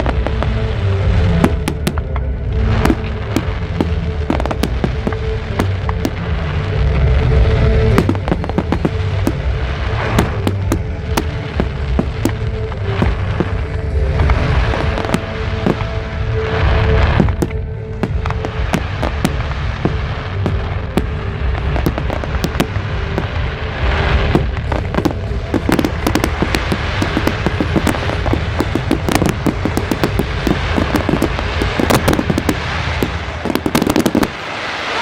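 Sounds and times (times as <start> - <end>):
fireworks bangs and crackles: 0.0 - 35.0
low rumble: 0.0 - 35.0.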